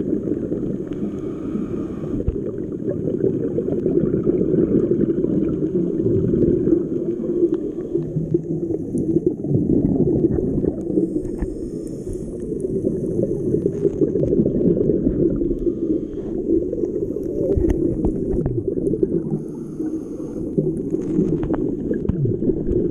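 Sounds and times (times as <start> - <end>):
muffled underwater water rush: 0.0 - 22.9.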